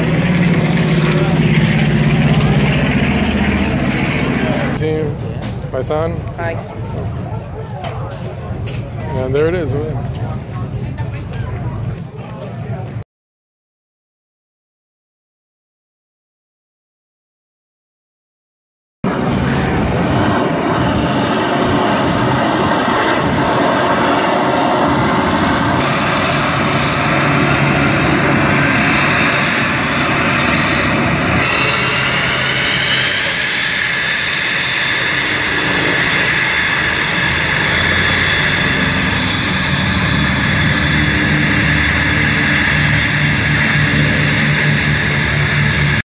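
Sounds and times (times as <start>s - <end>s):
jet engine roar with high whine: 0.0s - 13.0s, 19.1s - 46.0s.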